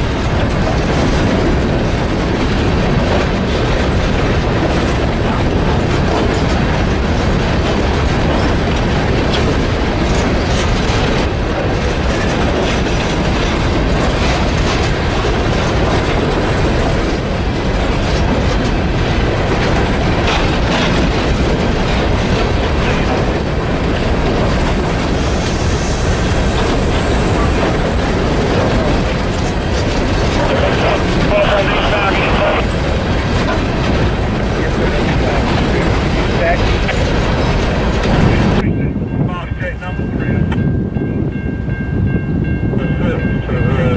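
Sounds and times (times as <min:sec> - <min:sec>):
clickety-clack over rail joints: 0:00.0 - 0:43.9
freight train wheels rumbling: 0:00.0 - 0:43.9.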